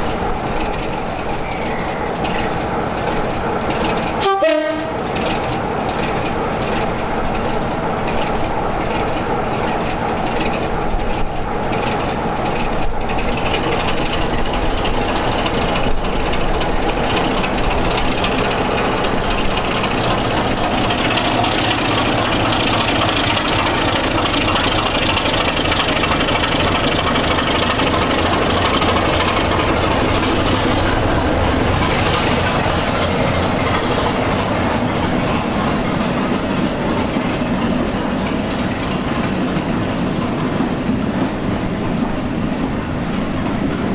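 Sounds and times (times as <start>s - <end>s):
train rumbling on rails: 0.0s - 43.9s.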